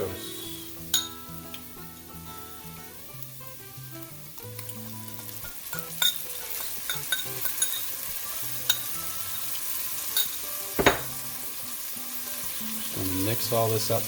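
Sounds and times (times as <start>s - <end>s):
background music: 0.0s - 14.0s
tomatoes sizzling in hot oil: 0.0s - 14.0s.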